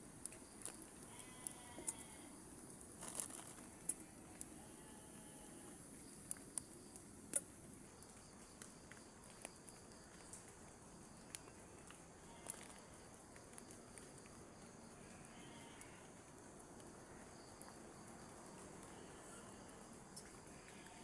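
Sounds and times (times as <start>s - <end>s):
raindrops ticking on tarp: 0.0s - 2.0s, 2.6s - 4.6s, 5.9s - 21.0s
faint rain hiss: 0.0s - 21.0s.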